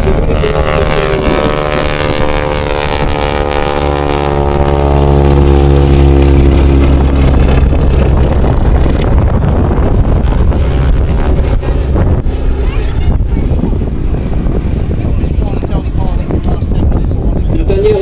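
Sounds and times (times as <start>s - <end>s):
biplane engine and propeller drone: 0.0s - 18.0s
loud rough rush of noise: 0.0s - 18.0s.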